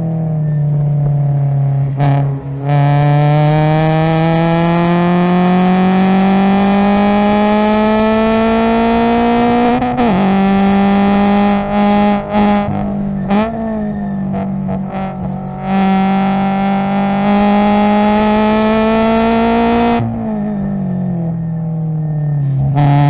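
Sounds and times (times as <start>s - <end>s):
car engine at full throttle: 0.0s - 23.0s.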